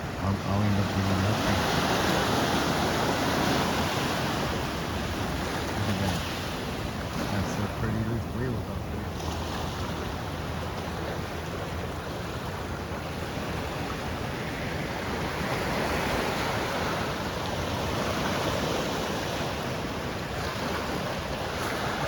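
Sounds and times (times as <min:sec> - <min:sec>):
ocean surf on rocky shore: 0:00.0 - 0:22.0.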